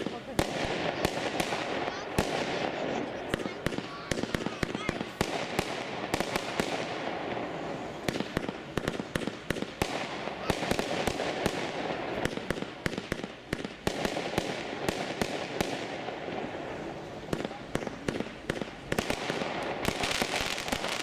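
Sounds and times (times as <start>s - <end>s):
fireworks bangs and pops: 0.0s - 21.0s
rushing noise of fireworks: 0.0s - 21.0s.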